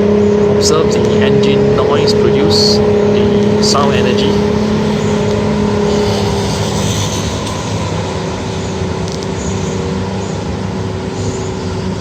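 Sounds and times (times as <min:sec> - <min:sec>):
tank diesel engine driving past: 0:00.0 - 0:12.0.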